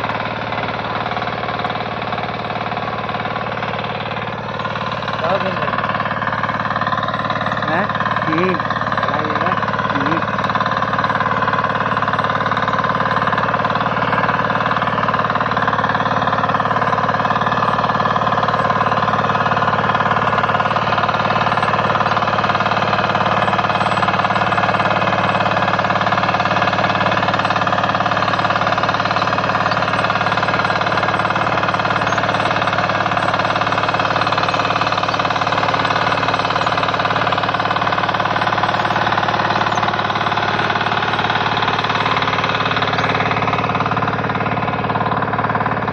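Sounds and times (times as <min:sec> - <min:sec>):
diesel engine running: 0:00.0 - 0:45.9
steady whine: 0:00.0 - 0:45.9.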